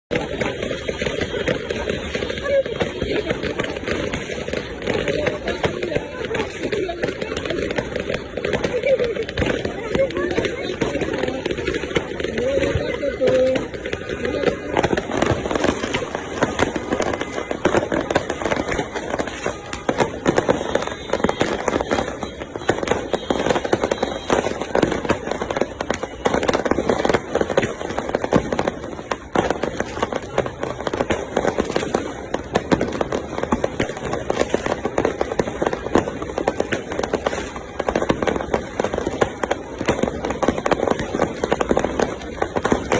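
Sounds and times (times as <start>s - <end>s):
fireworks crackling and banging: 0.0s - 42.9s.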